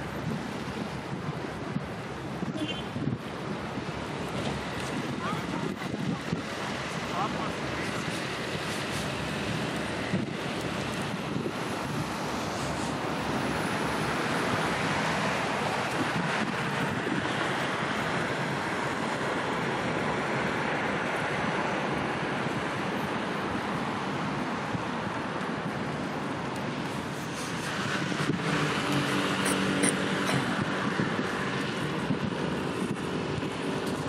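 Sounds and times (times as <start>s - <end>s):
distant traffic: 0.0s - 34.0s
low engine hum: 0.0s - 34.0s
water: 0.0s - 34.0s
wind on microphone: 0.0s - 34.0s.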